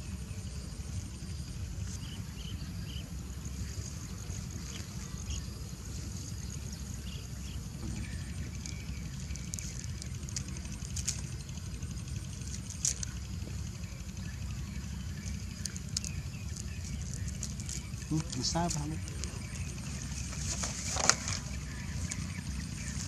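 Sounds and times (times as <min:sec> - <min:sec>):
insect trill: 0:00.0 - 0:23.0.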